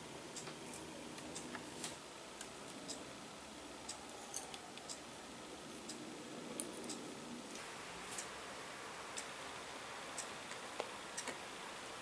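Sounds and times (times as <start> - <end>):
quiet room hiss: 0.0 - 12.0.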